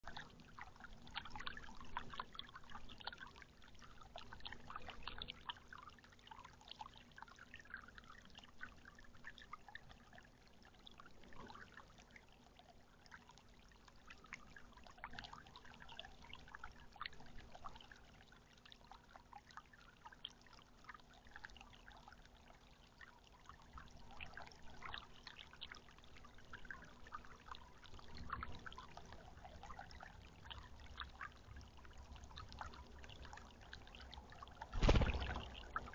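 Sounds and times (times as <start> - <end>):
faint steady hum: 0.0 - 35.9
fountain trickling and splashing: 0.0 - 35.9.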